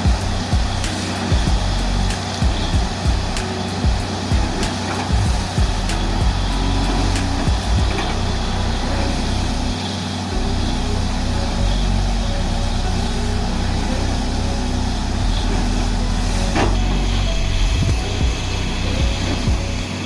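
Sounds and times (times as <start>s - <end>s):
drilling rig roaring: 0.0s - 20.0s.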